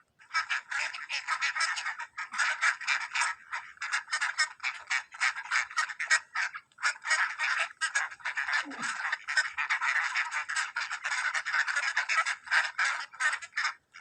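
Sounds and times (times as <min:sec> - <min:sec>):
ducks quacking: 0:00.2 - 0:14.0.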